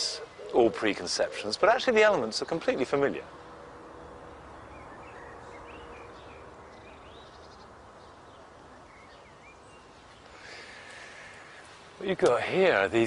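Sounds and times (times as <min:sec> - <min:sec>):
birds chirping and singing: 0:00.0 - 0:03.6, 0:04.2 - 0:13.0.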